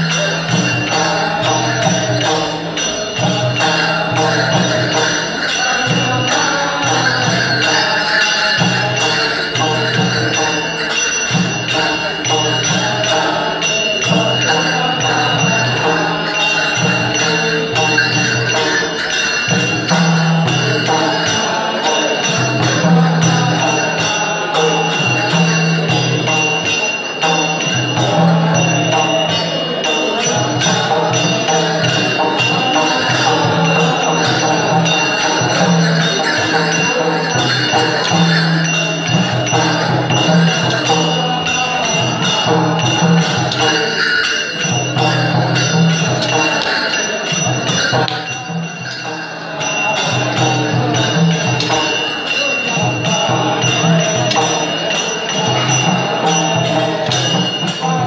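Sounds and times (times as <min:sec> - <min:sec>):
cymbals and bells jingling: 0:00.0 - 0:58.0
men chanting: 0:00.0 - 0:58.0.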